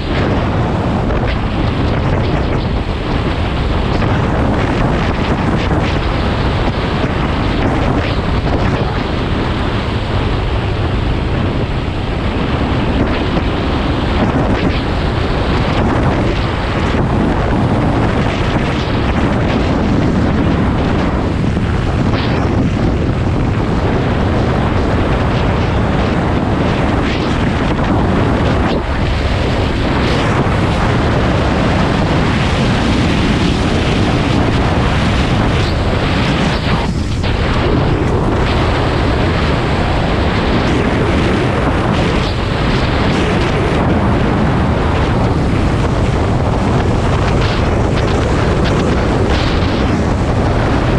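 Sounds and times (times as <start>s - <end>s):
road noise: 0.0s - 50.9s
wind buffeting microphone: 0.0s - 50.9s.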